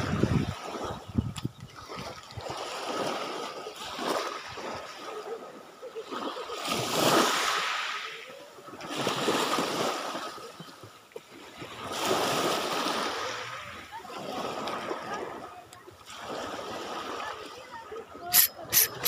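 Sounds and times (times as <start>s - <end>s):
small waves washing on beach: 0.0s - 19.0s.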